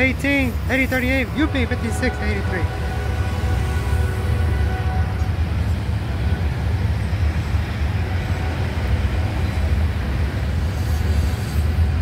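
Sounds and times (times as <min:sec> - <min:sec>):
freight train rumbling past: 0:00.0 - 0:12.0
road traffic: 0:00.0 - 0:12.0.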